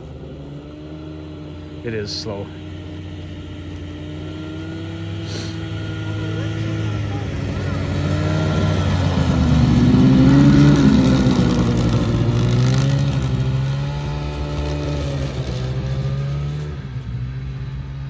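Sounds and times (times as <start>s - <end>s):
snowmobile engine running: 0.0s - 18.0s.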